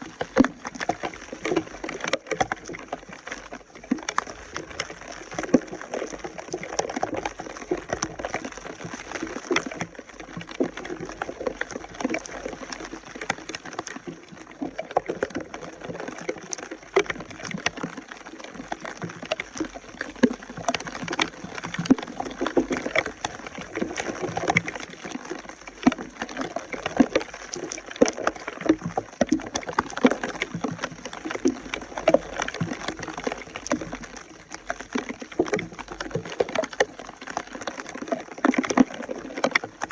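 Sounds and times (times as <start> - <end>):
water splashing and gurgling: 0.0 - 39.9.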